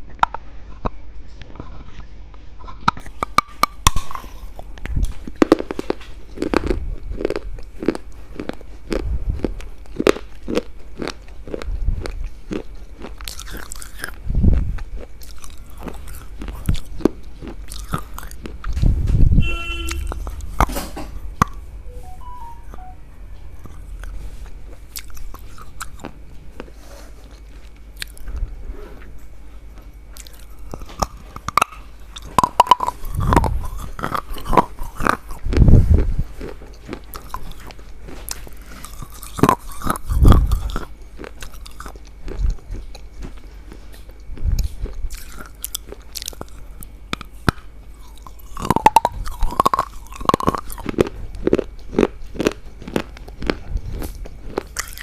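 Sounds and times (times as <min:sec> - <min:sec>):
crunchy biting and chewing: 0:00.0 - 0:55.0.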